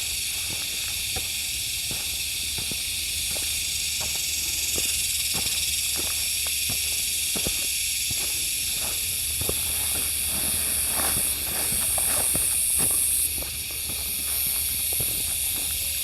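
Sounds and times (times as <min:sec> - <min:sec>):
footsteps on a trail: 0:00.0 - 0:16.0
insect chorus buzzing: 0:00.0 - 0:16.0.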